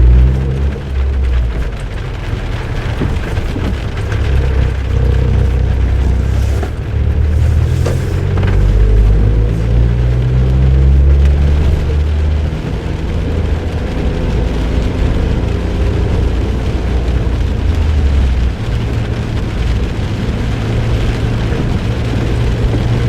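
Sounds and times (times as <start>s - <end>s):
car engine running: 0.0s - 23.0s
tyre and road noise: 0.0s - 23.0s.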